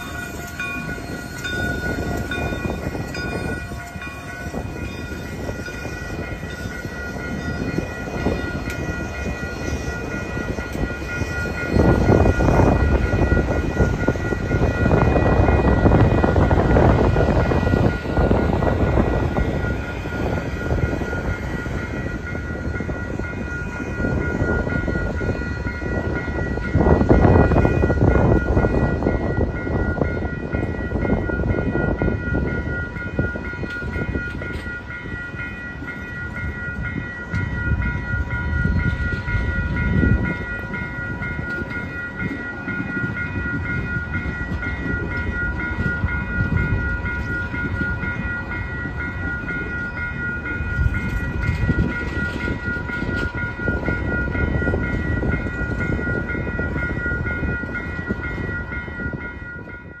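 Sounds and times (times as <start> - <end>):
train wheels rumbling on rails: 0.0 - 60.0.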